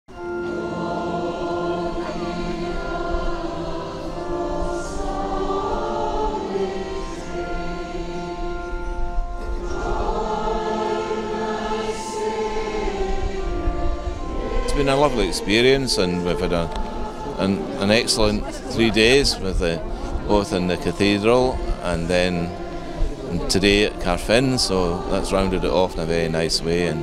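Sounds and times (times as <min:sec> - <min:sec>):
congregation singing a hymn: 0:00.1 - 0:27.0.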